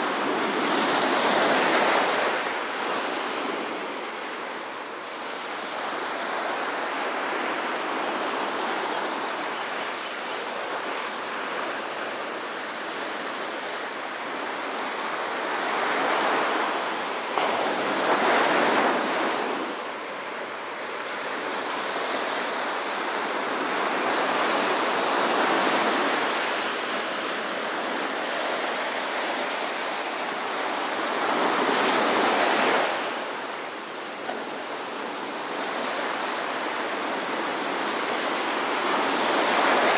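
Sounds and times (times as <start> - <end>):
waves breaking on sandy beach: 0.0 - 39.9.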